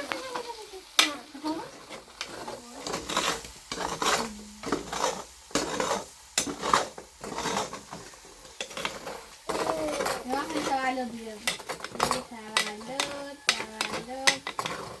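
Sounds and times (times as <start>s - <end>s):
food sizzling: 0.0s - 15.0s
metal utensil scraping a pot: 0.3s - 15.0s.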